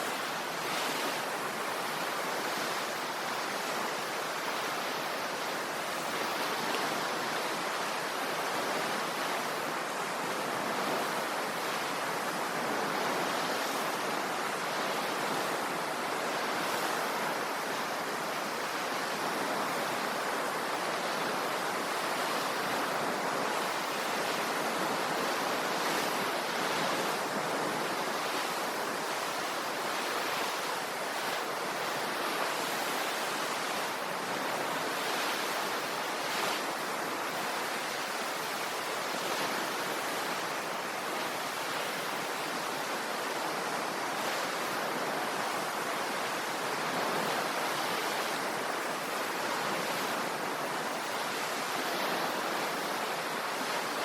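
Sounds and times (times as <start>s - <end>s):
sea waves washing in: 0.0s - 54.0s.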